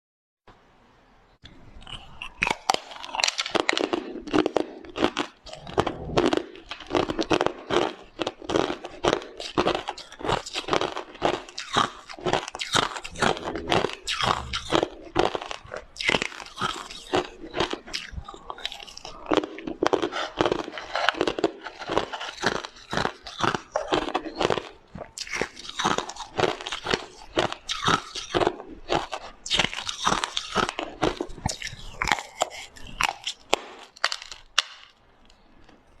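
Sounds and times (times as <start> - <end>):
ice being chewed: 1.8 - 36.0.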